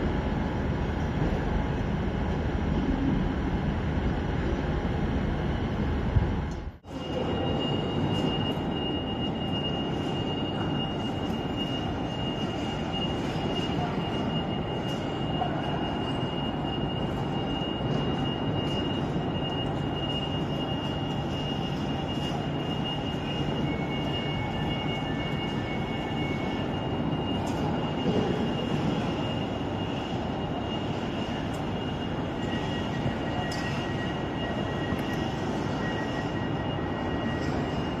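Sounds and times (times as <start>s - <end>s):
lower whine: 0.0s - 38.0s
thin high whine: 6.8s - 38.0s.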